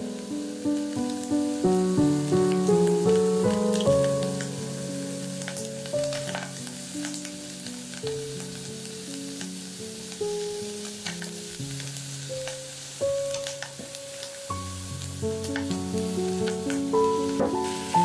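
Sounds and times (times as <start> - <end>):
background music of held notes: 0.0 - 11.5, 13.0 - 18.0
food sizzling in a pot: 0.0 - 18.0.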